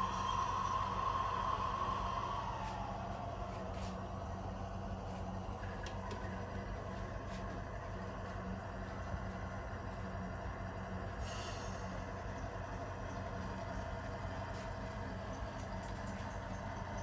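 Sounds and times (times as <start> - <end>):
diesel engine through small speaker: 0.0 - 17.0.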